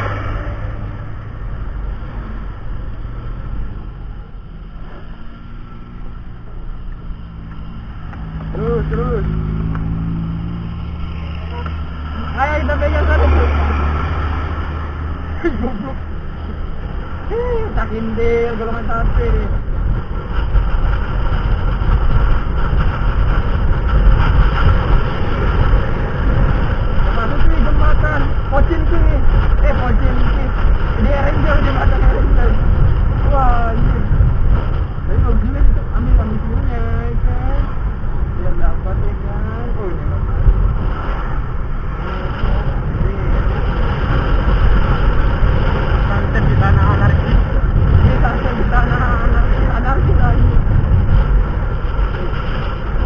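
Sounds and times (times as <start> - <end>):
road noise: 0.0 - 53.0
wind rushing: 0.0 - 53.0.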